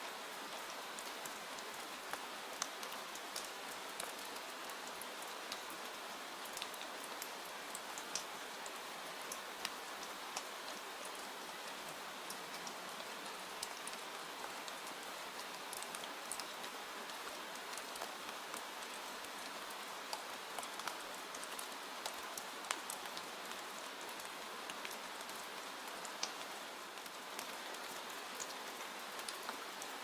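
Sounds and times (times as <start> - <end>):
steady rain hiss: 0.0 - 30.0.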